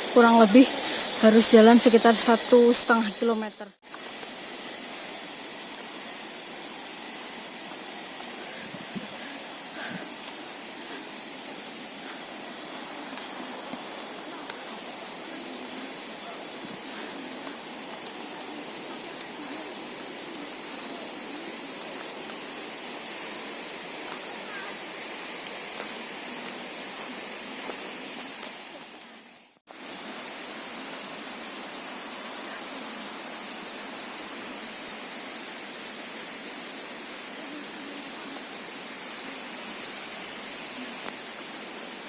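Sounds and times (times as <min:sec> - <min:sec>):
cicadas droning: 0:00.0 - 0:42.0
forest background hiss: 0:00.0 - 0:42.0.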